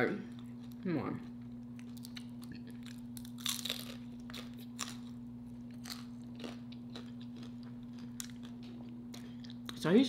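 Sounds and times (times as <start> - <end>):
faint steady hum: 0.0 - 10.0
chewing crunchy chips: 0.3 - 9.9.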